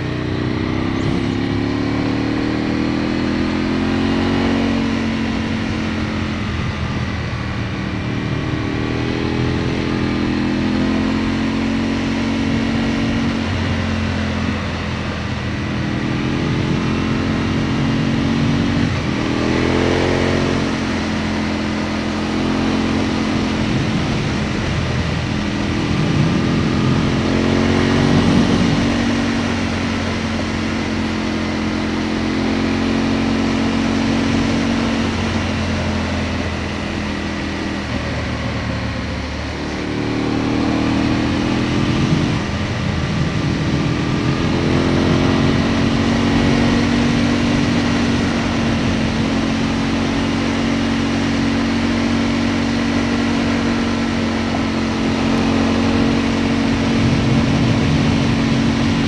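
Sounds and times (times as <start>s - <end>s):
motorcycle engine revving: 0.0s - 59.0s
wind rush: 11.3s - 59.0s.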